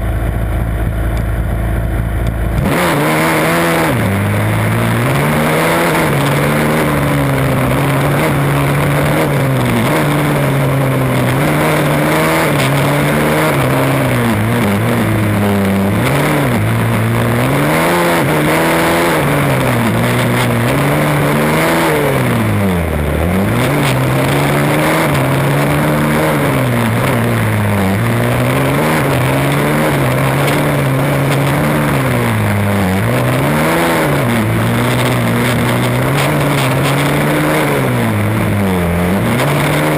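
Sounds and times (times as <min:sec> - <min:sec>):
race car engine revving: 0:00.8 - 0:39.9.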